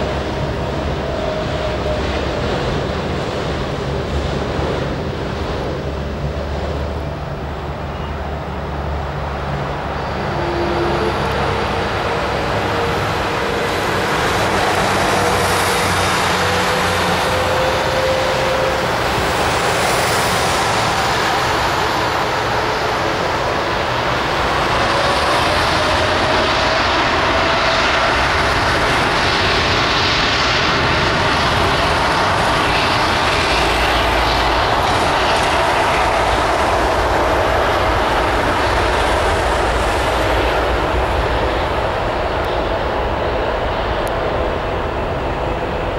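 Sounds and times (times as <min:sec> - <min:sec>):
jet engine whine: 0:00.0 - 0:45.9
jet engines roaring: 0:00.0 - 0:45.9.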